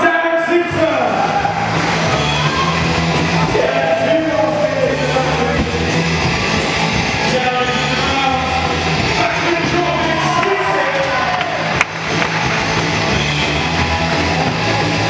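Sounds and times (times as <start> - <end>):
rock music with singing: 0.4 - 15.0.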